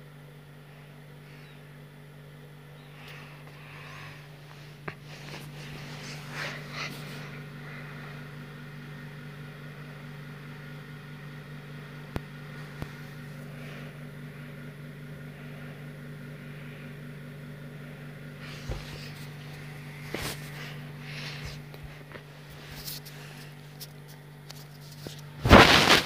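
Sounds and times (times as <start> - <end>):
ceiling fan motor hum: 0.0 - 26.0.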